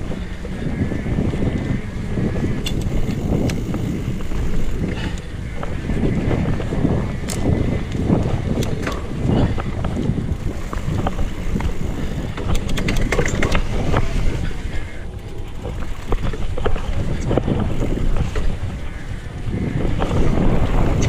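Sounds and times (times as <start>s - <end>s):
bike clicks and rattles: 0.0s - 21.0s
tyres rolling on dirt trail: 0.0s - 21.0s
wind buffeting microphone: 0.0s - 21.0s.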